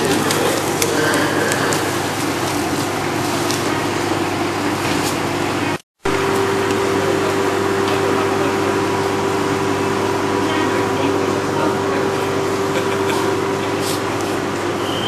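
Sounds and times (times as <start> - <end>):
electric train humming: 0.0 - 15.0
station noise: 0.0 - 15.0.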